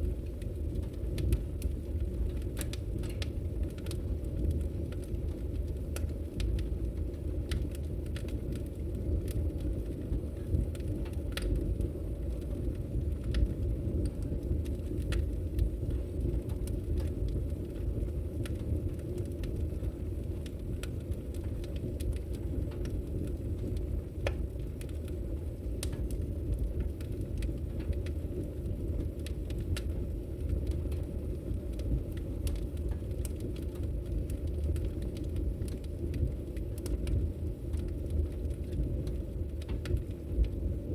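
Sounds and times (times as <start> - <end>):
steady low rumble: 0.0 - 40.9
wood logs burning with crackles: 0.0 - 40.9.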